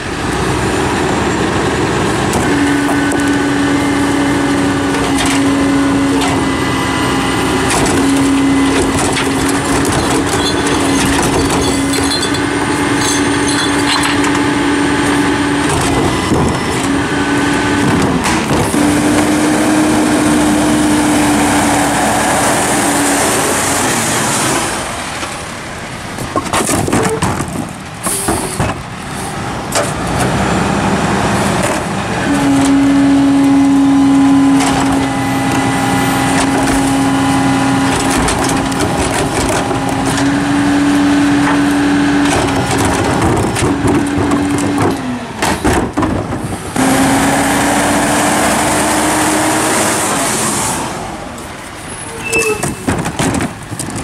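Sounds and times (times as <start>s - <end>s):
trash carts knocking and clattering: 0.0s - 49.9s, 50.7s - 54.0s
garbage truck engine humming: 0.0s - 54.0s.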